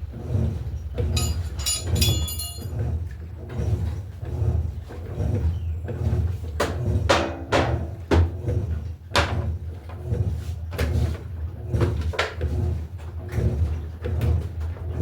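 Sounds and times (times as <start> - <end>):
washing machine agitating: 0.0 - 15.0.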